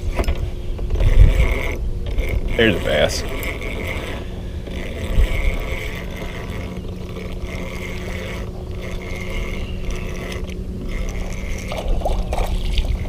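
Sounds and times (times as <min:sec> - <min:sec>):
steady low hum: 0:00.0 - 0:13.0
wind rumbling on microphone: 0:00.0 - 0:13.0.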